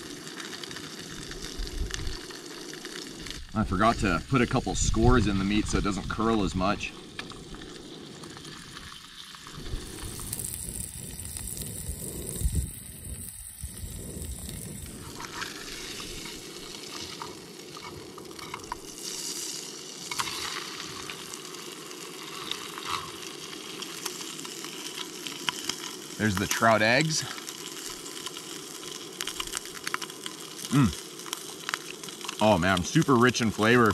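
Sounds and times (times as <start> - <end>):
fish sizzling in frying pan: 0.0 - 33.9.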